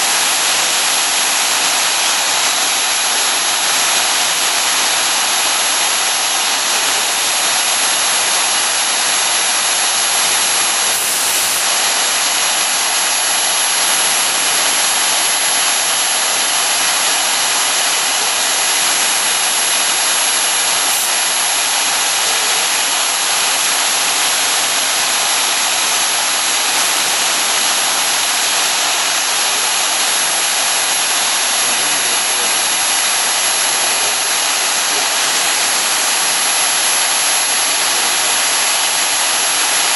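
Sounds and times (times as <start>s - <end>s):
router cutting foam hiss: 0.0s - 39.9s.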